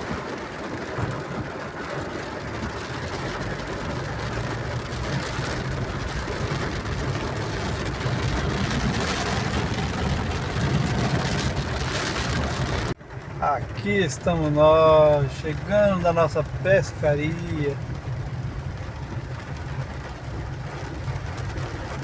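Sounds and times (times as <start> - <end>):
rain hissing: 0.0 - 22.0
vehicle engine running: 0.0 - 22.0.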